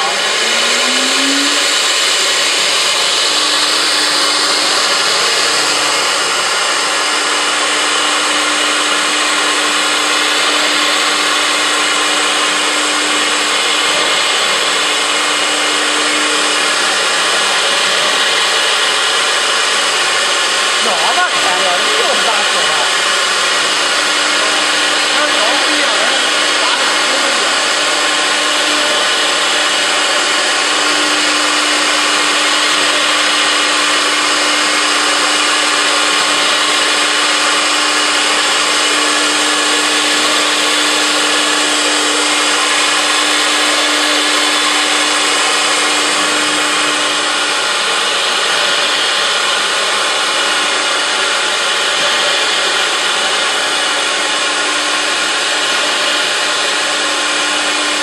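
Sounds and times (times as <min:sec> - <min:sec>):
router spindle whine: 0:00.0 - 0:58.0
wood cutting rush: 0:00.0 - 0:58.0.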